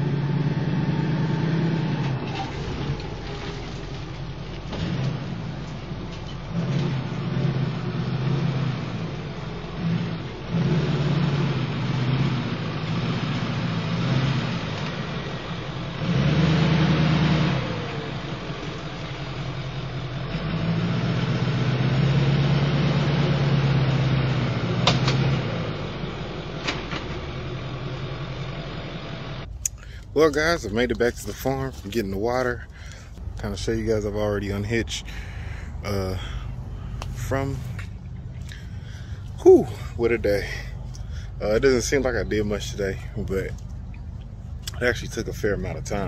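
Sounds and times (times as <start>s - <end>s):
pickup truck engine running: 0.0s - 46.0s.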